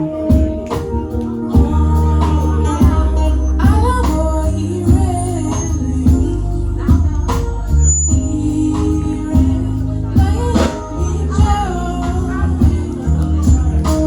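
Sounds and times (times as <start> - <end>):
drum beats: 0.0 - 14.0
gospel choir singing: 0.0 - 14.0
heavy bass line: 0.0 - 14.0.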